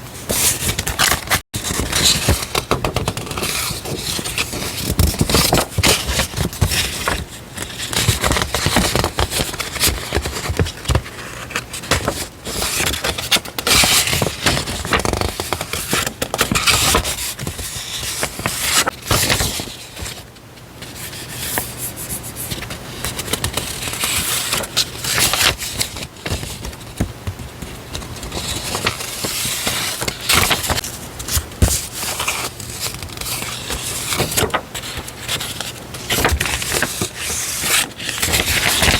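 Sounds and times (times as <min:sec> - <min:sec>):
paper rustling and crinkling: 0:00.2 - 0:38.9.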